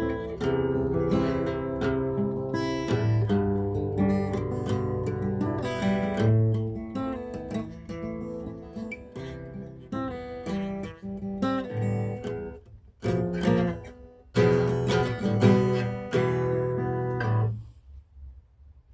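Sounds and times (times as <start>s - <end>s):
acoustic guitar strumming chords: 0.0s - 17.7s.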